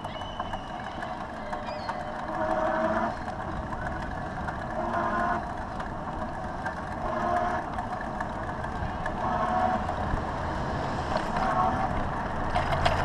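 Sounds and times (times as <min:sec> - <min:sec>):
wind and tyre noise: 0:00.0 - 0:13.0
electric motor whine: 0:00.2 - 0:12.4.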